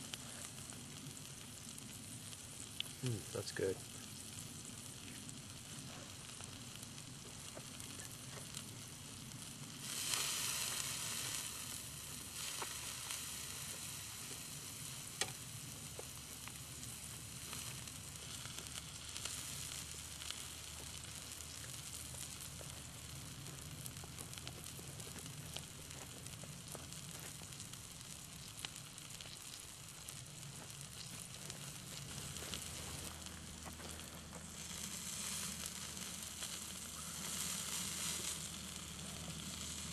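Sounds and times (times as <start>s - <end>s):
steak sizzling on a grill: 0.0s - 39.9s.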